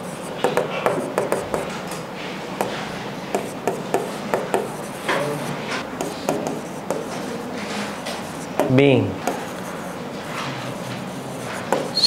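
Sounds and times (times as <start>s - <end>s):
pen writing on paper: 0.0s - 1.7s, 2.6s - 12.0s.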